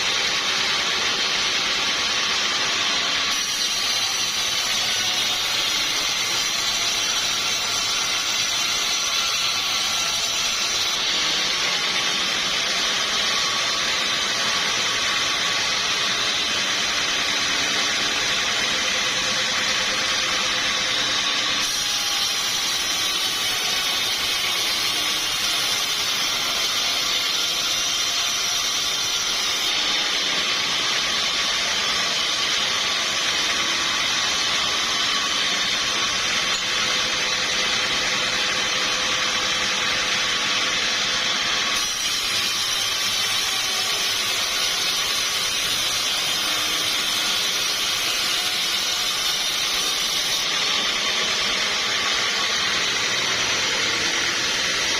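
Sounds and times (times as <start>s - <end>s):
sawmill saw cutting timber: 0.0s - 54.9s.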